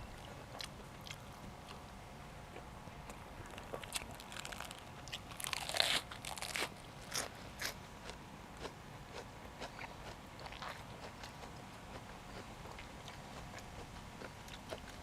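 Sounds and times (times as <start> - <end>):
crunching raw vegetables: 2.5 - 15.0.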